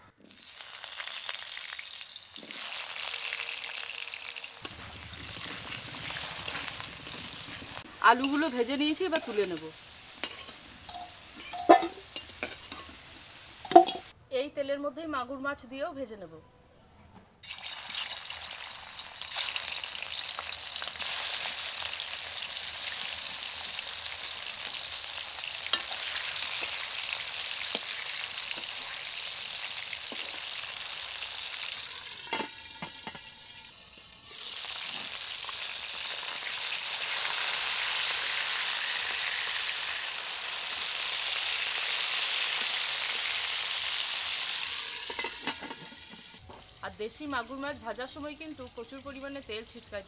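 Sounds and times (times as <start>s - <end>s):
fish frying in spitting oil: 0.2s - 14.1s, 17.4s - 46.7s.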